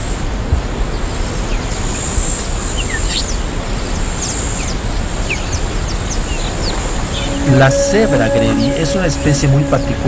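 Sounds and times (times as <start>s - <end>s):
bird chirps: 1.5s - 10.0s.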